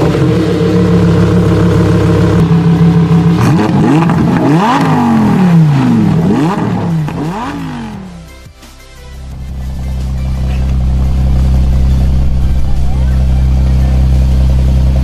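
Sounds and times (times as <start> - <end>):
sports car engine revving: 0.0 - 8.3, 9.2 - 15.0.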